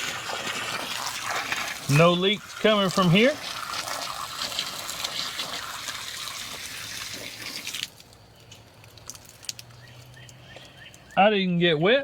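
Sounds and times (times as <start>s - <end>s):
garden hose spraying water: 0.0s - 11.1s.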